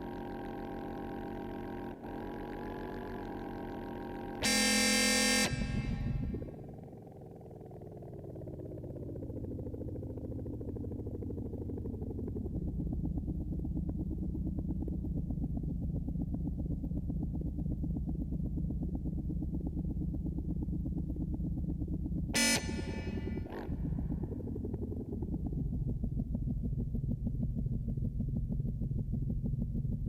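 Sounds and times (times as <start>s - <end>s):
synthesizer drone: 0.0s - 29.9s.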